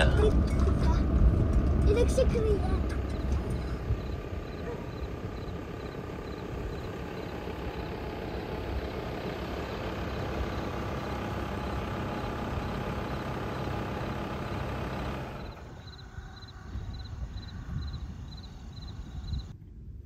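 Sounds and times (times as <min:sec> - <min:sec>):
van engine idling: 0:00.0 - 0:19.5.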